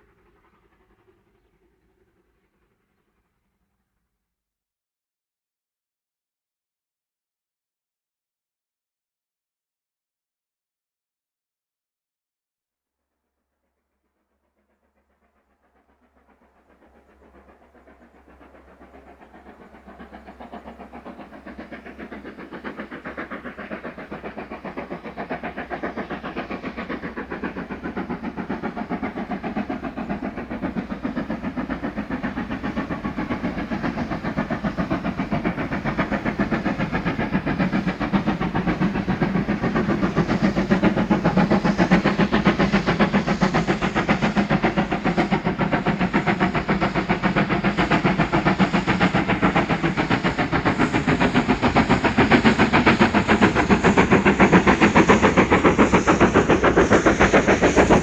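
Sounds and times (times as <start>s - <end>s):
steam locomotive chugging: 0.0s - 3.5s, 14.3s - 58.0s.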